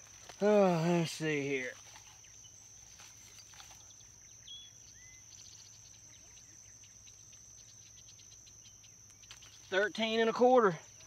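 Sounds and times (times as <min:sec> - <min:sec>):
high-pitched insect buzz: 0:00.0 - 0:11.0
faint bird chirps: 0:01.2 - 0:11.0.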